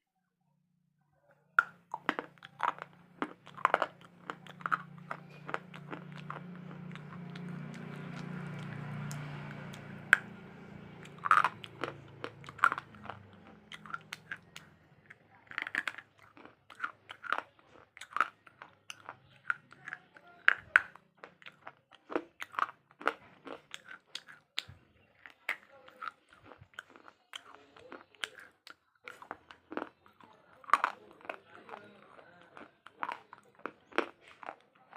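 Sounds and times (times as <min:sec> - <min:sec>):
crunching bites and chewing: 0:01.6 - 0:34.9.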